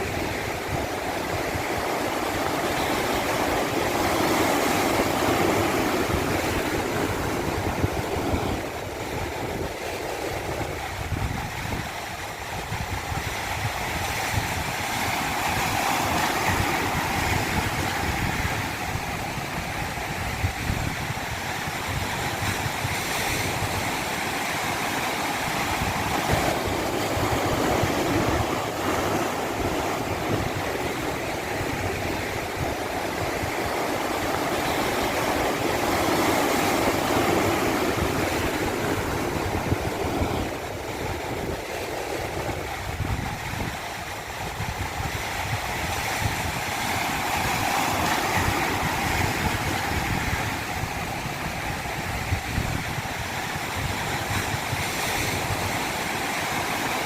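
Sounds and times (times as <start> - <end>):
stream rushing down cascade: 0.0 - 57.0.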